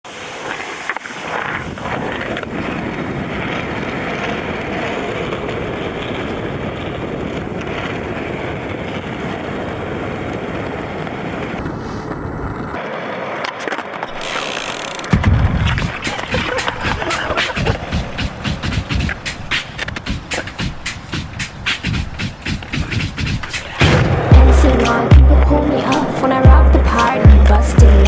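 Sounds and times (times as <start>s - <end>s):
skateboard wheels rolling on asphalt: 0.0s - 28.0s
skateboard clacks: 0.1s - 28.0s.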